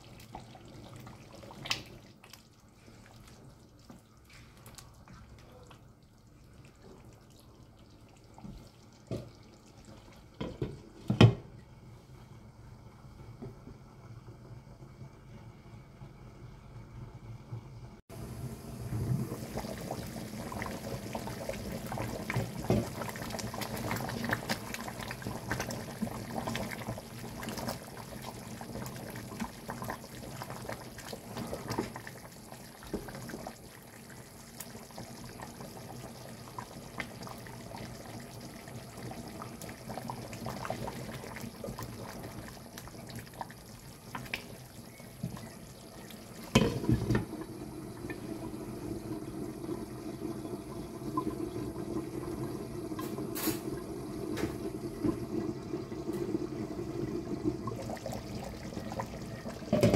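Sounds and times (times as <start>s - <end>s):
curry simmering in a pot: 0.0s - 11.3s, 18.1s - 59.9s.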